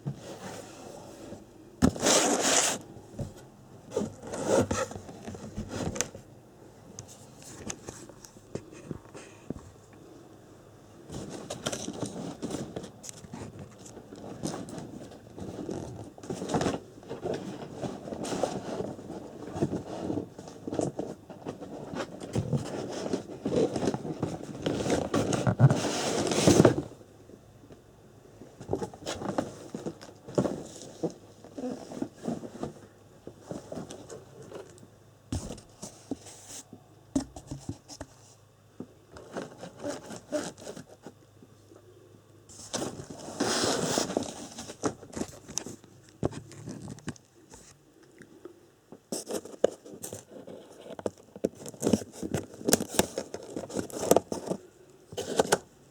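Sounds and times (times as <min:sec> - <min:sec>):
packaging rustling and scraping: 0:00.0 - 0:06.3, 0:11.0 - 0:27.0, 0:28.6 - 0:38.5, 0:39.1 - 0:41.2, 0:42.5 - 0:47.8, 0:49.1 - 0:55.7.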